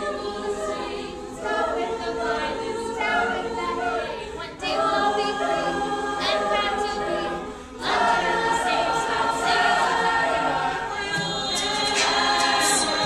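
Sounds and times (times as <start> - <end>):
choir singing harmony: 0.0 - 13.0.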